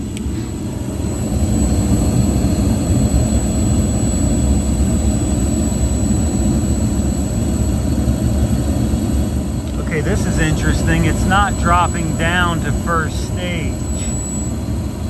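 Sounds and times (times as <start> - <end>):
gas burners and fan rumbling: 0.0 - 15.0.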